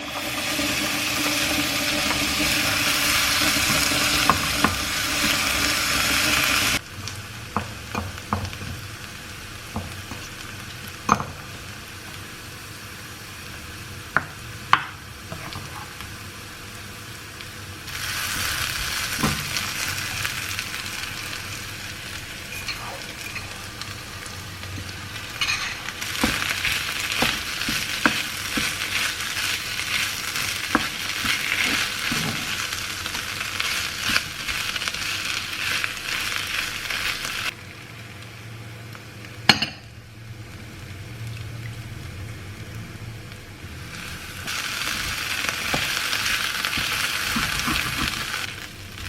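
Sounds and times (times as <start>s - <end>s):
food sizzling in a frying pan: 0.0s - 49.0s.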